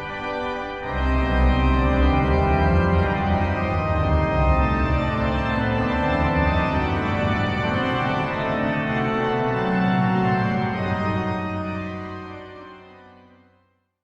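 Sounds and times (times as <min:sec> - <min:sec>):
organ playing sustained chords: 0:00.0 - 0:13.5.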